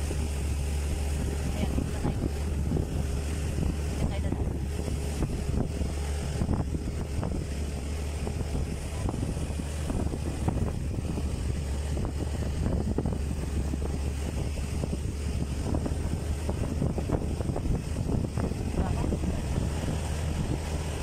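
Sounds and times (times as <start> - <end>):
steady low rumble: 0.0 - 21.0
wind buffeting microphone: 0.0 - 21.0.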